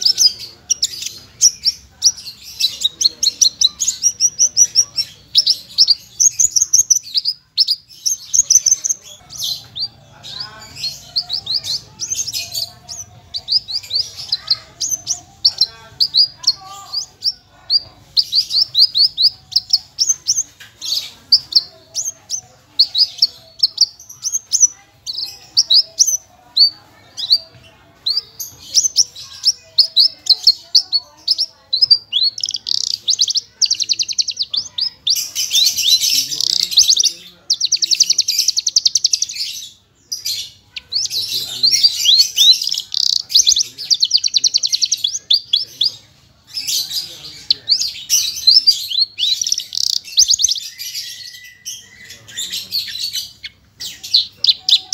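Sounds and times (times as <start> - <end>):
buzzy bird trill: 0.0 - 54.9
lark singing: 0.0 - 54.9.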